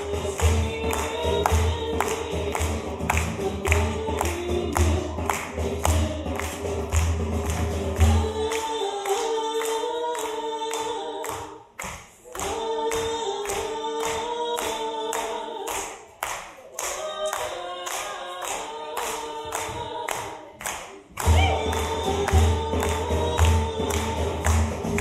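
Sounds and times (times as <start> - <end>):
voices singing in harmony: 0.0 - 6.9, 7.6 - 25.0
hand claps: 0.0 - 25.0.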